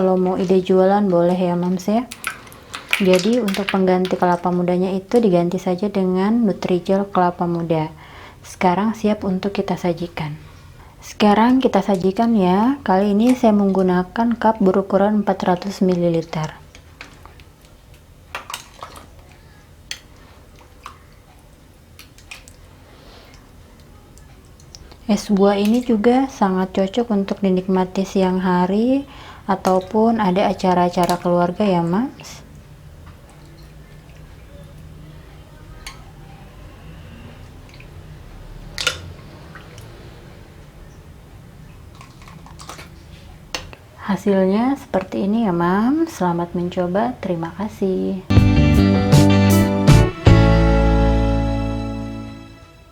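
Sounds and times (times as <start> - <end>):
soft liquid sounds: 0.0 - 48.2.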